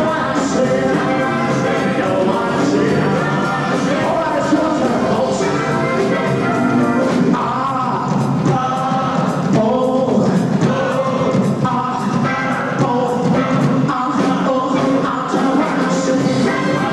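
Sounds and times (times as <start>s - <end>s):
live rock and roll band: 0.0s - 16.9s
voices singing together: 0.0s - 16.9s.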